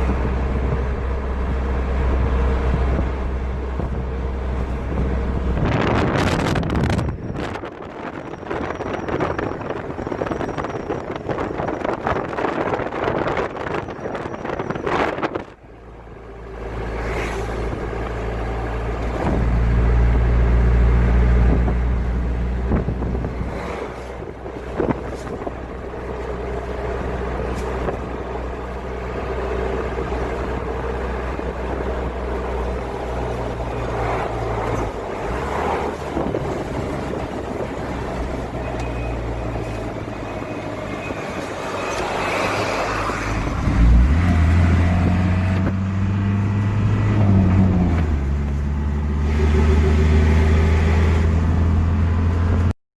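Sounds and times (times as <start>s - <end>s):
car engine and road noise: 0.0s - 52.8s.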